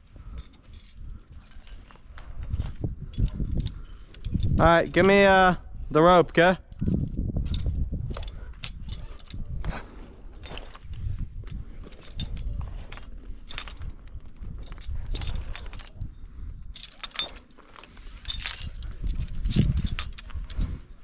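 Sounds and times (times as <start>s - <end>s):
metal carabiners clinking: 0.0s - 5.5s, 6.6s - 21.0s.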